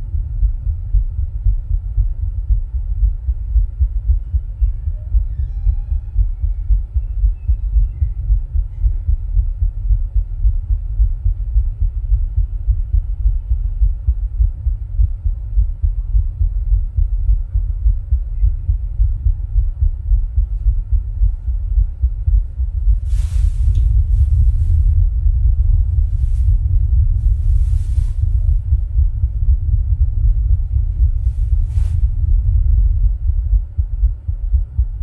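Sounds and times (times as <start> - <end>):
heartbeat thumps: 0.0 - 35.0.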